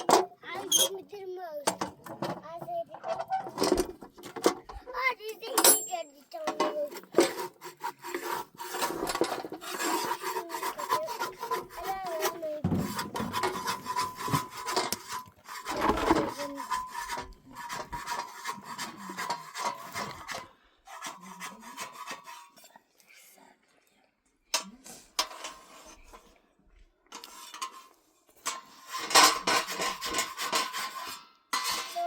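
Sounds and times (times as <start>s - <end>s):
rough rubbing and scraping: 0.0s - 22.7s, 28.7s - 32.0s.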